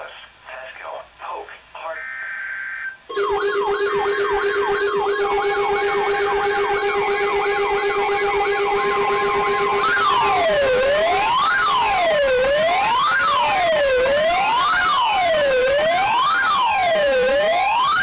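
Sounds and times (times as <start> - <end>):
electronic siren yelp: 2.0 - 18.0.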